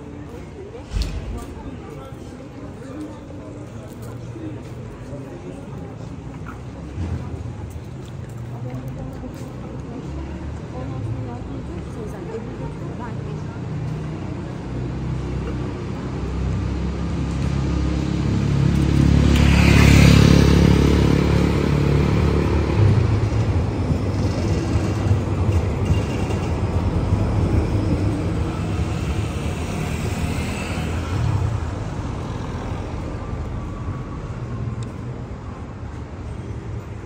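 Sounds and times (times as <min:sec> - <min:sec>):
tram rumbling past: 0:00.0 - 0:37.0.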